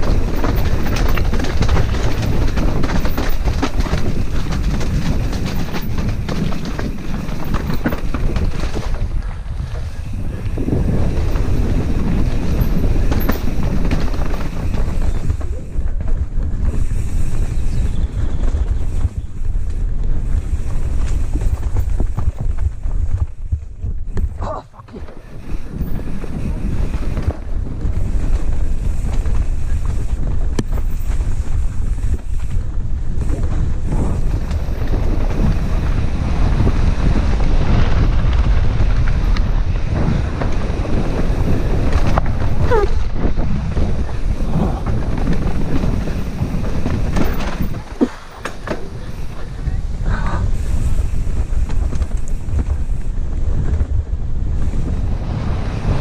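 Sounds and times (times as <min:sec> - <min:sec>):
dirt bike engine running: 0:00.0 - 0:56.0
wind buffeting microphone: 0:00.0 - 0:56.0.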